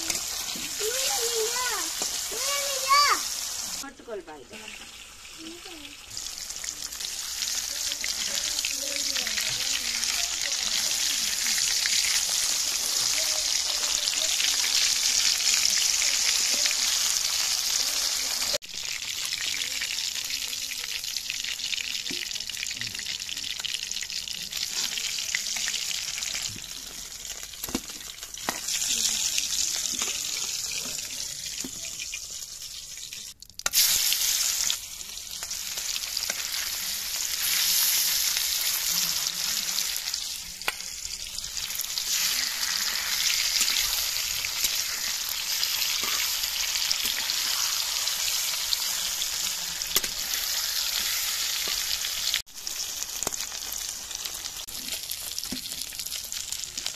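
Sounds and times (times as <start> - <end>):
fish sizzling in hot oil: 0.0 - 56.9.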